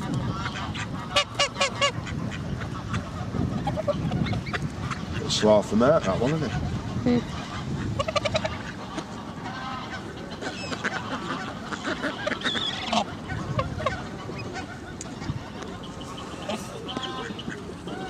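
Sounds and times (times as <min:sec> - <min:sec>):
ducks and birds calling: 0:00.0 - 0:18.0
geese honking: 0:00.0 - 0:18.0.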